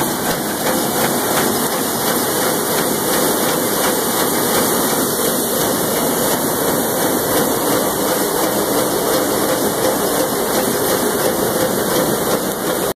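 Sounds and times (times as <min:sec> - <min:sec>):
printing press running: 0:00.0 - 0:12.9.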